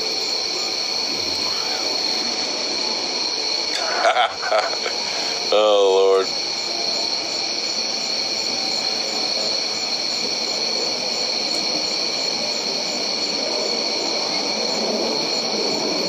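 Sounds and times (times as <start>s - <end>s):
insects trilling: 0.0s - 16.0s
pulsing insect call: 0.0s - 16.0s.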